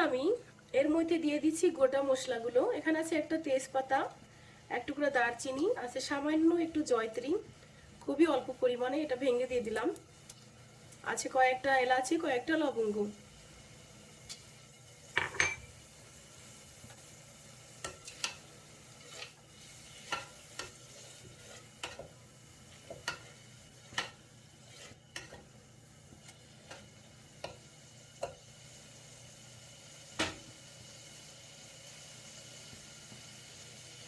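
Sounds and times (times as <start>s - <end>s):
spices sizzling: 0.0s - 34.0s.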